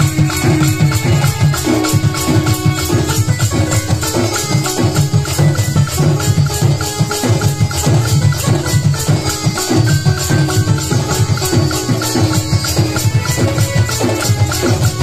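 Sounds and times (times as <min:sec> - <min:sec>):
held melody line: 0:00.0 - 0:15.0
rattle of small percussion: 0:00.0 - 0:15.0.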